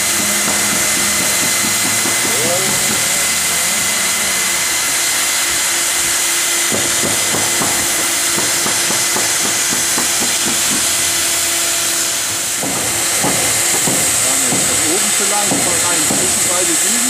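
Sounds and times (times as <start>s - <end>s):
blower whine: 0.0s - 17.0s
hot-air welder hissing: 0.0s - 17.0s.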